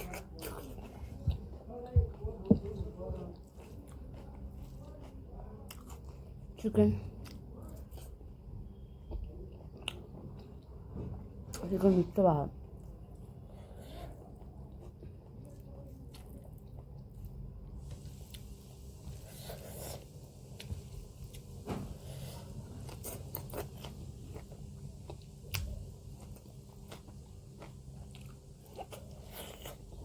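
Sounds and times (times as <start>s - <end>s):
person chewing and eating: 0.0s - 11.6s, 12.6s - 30.0s
steady low hum: 0.0s - 30.0s.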